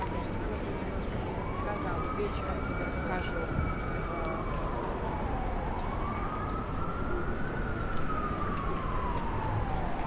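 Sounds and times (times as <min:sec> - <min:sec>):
city traffic rumble: 0:00.0 - 0:10.0
emergency siren wailing: 0:00.0 - 0:10.0.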